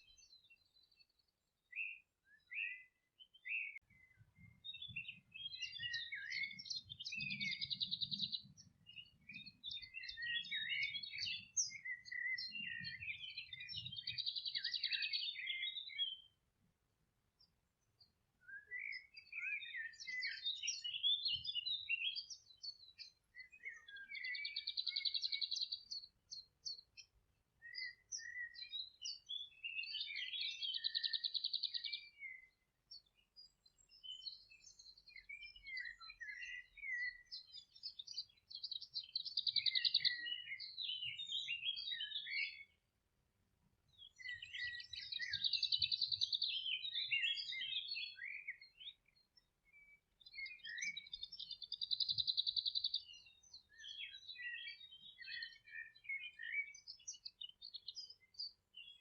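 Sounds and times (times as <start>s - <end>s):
songbirds singing with buzzy trills: 0.0s - 59.0s.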